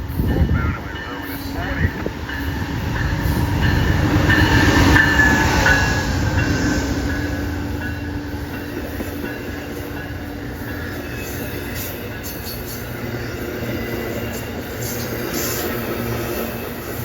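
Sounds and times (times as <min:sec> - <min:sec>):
passenger train rumbling past: 0:00.0 - 0:17.0.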